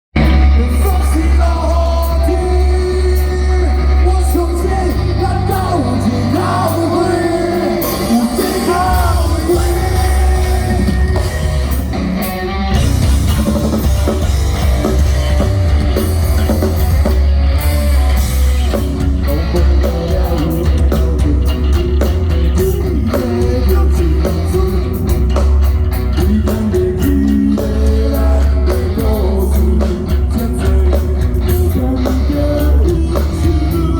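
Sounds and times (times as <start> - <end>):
guitars: 0.1 - 33.9
heavy booming bass: 0.1 - 33.9
person singing: 0.2 - 11.9, 17.6 - 25.4, 26.0 - 33.9.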